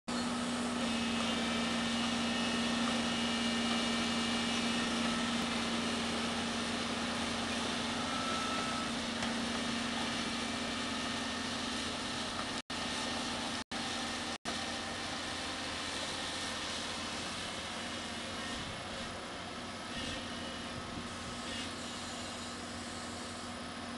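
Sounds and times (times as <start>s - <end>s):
excavator pile driver drone: 0.1s - 23.9s.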